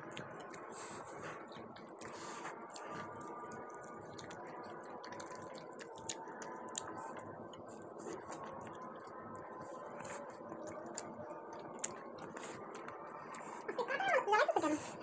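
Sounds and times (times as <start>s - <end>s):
squishy hand-mixing of rice: 0.0s - 13.6s
wet chewing and lip smacks: 0.0s - 13.7s.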